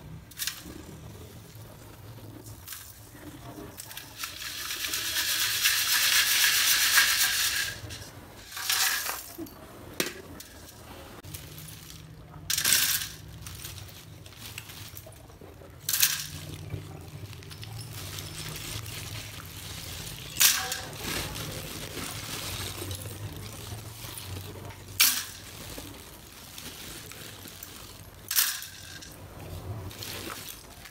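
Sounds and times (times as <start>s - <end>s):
clay chips rattling in metal sieve: 2.4s - 9.5s, 10.2s - 30.9s
clay pieces clattering into sieve: 2.6s - 30.9s.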